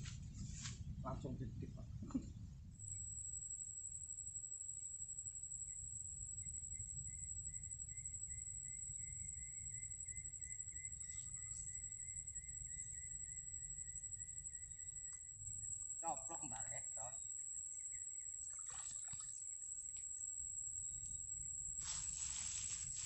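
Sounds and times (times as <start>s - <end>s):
insects pulsing trill: 0.0s - 23.0s
insects high-pitched drone: 2.8s - 23.0s.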